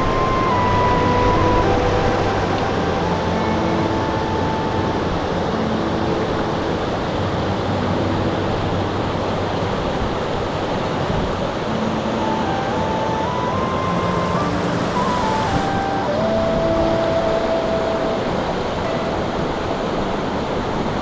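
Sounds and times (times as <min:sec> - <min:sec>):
soft relaxing music: 0:00.0 - 0:21.0
waterfall roar: 0:00.0 - 0:21.0.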